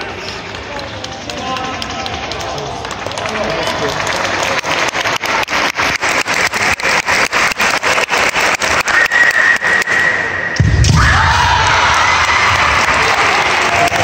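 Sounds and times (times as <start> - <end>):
crowded sports hall noise: 0.0 - 14.0.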